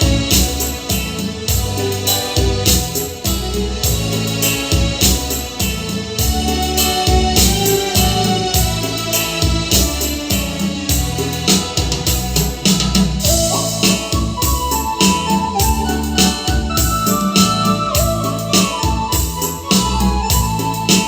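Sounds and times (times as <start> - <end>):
electronic keyboard music: 0.0 - 21.0
steady beat: 0.0 - 21.0.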